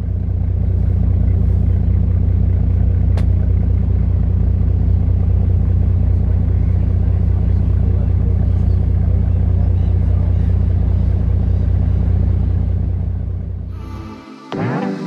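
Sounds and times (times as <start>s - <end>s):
boat engine low rumble: 0.0s - 13.8s.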